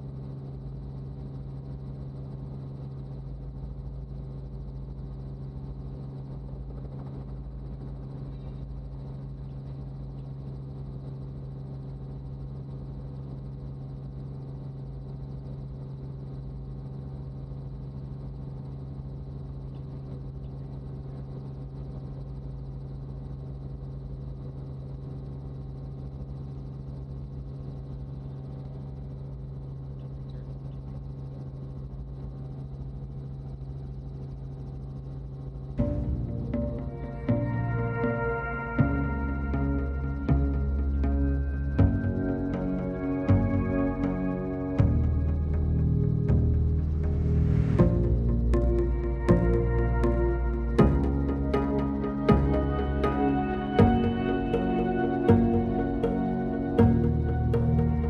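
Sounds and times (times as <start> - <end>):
helicopter in flight: 0.0 - 58.0.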